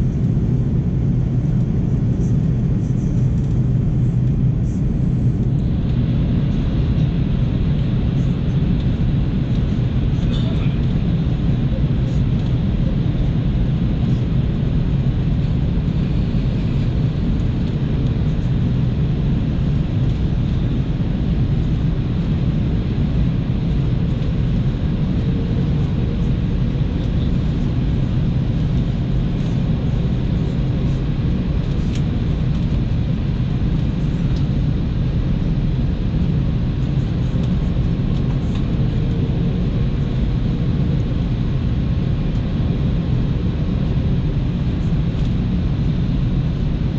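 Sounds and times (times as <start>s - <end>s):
aircraft cabin engine rush: 0.0s - 46.9s.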